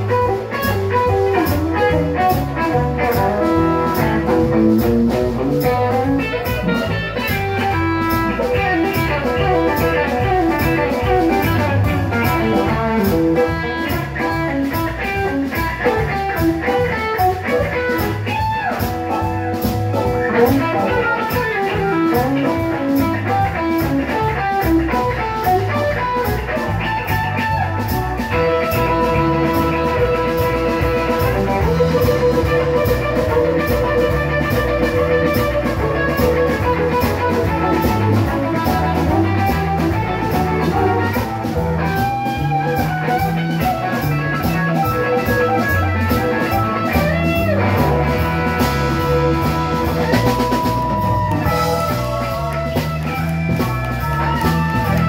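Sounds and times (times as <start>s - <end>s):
drum kit: 0.0s - 55.0s
electric guitar solo: 0.0s - 55.0s.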